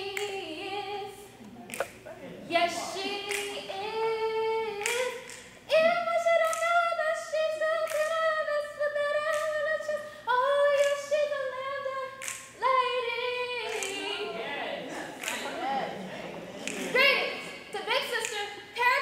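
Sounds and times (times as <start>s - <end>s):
woman singing unaccompanied: 0.0s - 1.4s, 2.4s - 14.4s, 16.9s - 19.0s.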